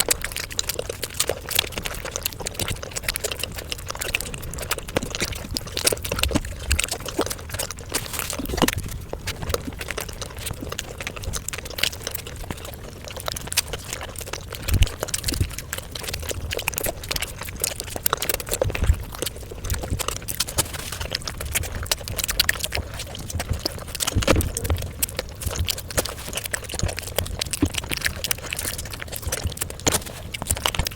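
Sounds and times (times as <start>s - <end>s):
sharp crackly clicks: 0.0s - 30.9s
wet chewing: 0.0s - 30.9s.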